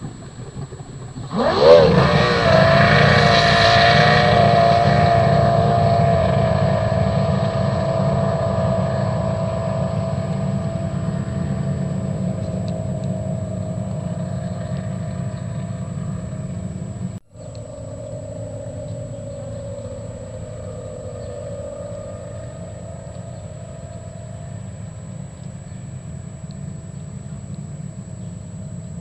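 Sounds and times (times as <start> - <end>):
boat engine running hard: 0.0 - 29.0.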